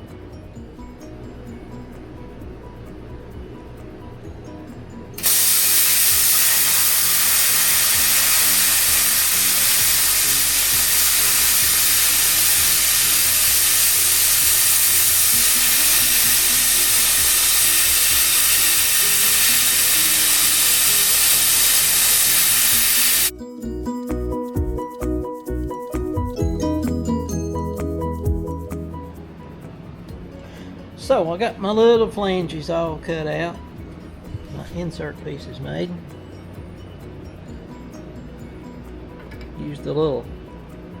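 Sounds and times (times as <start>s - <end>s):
background music: 0.0s - 41.0s.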